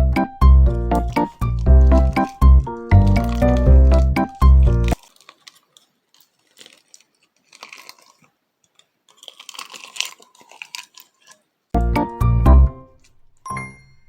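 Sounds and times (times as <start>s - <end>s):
faint crunching and clicking: 0.7s - 11.8s, 12.8s - 13.5s.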